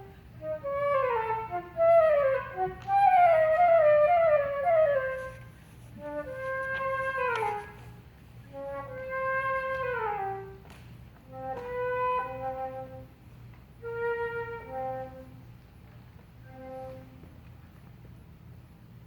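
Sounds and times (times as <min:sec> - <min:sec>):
solo flute playing: 0:00.0 - 0:15.6, 0:16.4 - 0:17.4.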